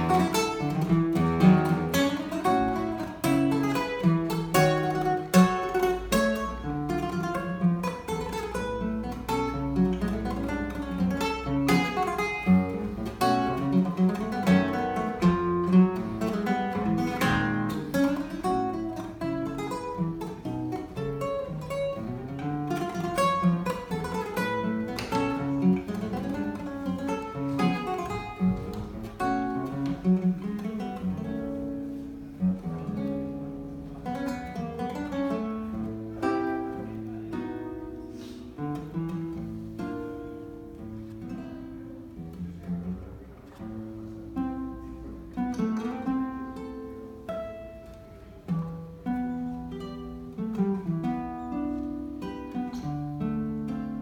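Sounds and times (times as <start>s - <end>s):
fingerstyle classical guitar: 0.0s - 54.0s.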